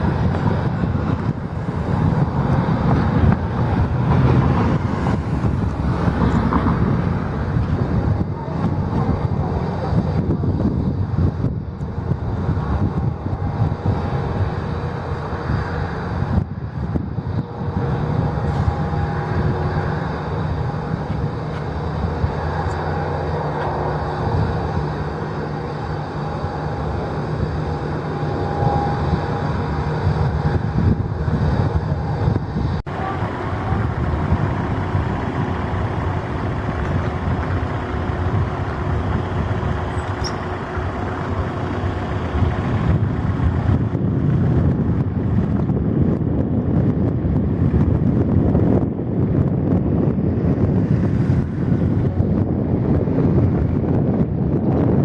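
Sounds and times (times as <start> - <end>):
faint steady whine: 0.0 - 44.8
rushing rumble: 0.0 - 55.0
steady engine noise: 0.0 - 55.0.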